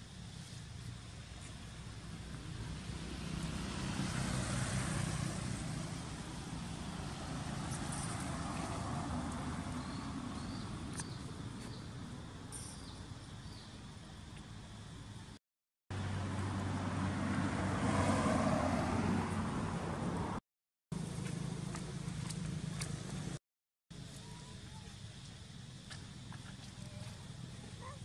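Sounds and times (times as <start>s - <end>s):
vehicle engine rumbling: 0.0s - 23.4s.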